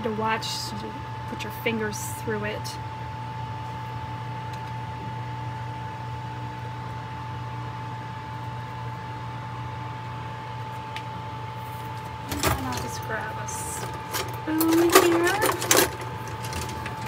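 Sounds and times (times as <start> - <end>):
appliance humming: 0.0 - 17.0.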